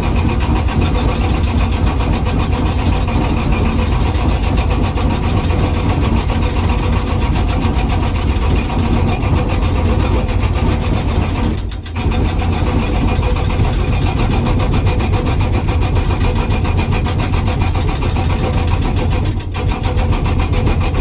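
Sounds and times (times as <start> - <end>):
diesel engine running: 0.0 - 21.0
hydraulic breaker hammering rock: 0.0 - 21.0.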